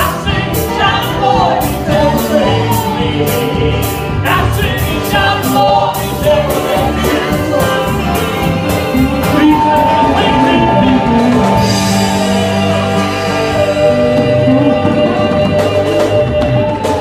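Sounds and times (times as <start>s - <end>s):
drum beat: 0.0s - 17.0s
electric bass: 0.0s - 17.0s
gospel singing: 0.0s - 17.0s
piano: 0.0s - 17.0s.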